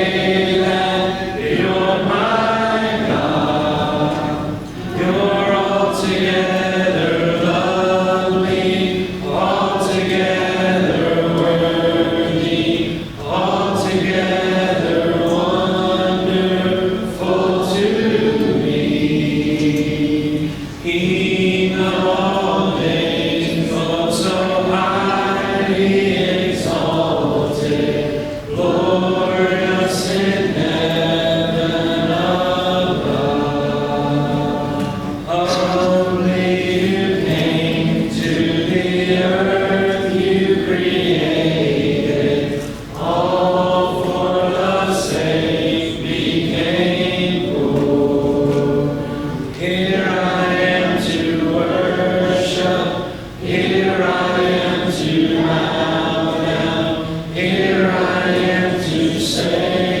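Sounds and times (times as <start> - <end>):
congregation singing a hymn: 0.0 - 60.0.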